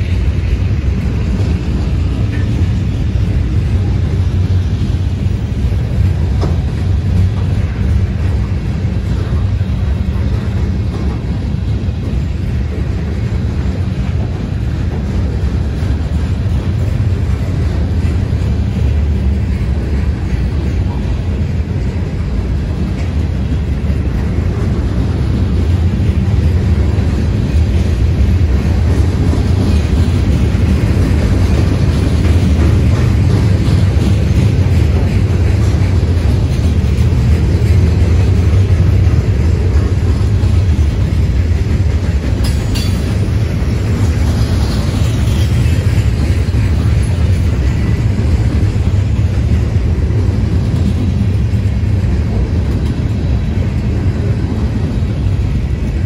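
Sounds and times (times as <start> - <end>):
freight train rumbling on rails: 0.0 - 56.0.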